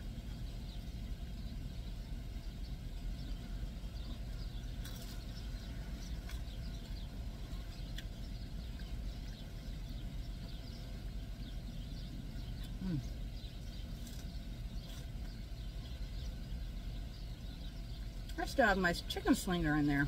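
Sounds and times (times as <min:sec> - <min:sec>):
birds chirping: 0:00.0 - 0:20.0
vehicle engine idling: 0:00.0 - 0:20.0.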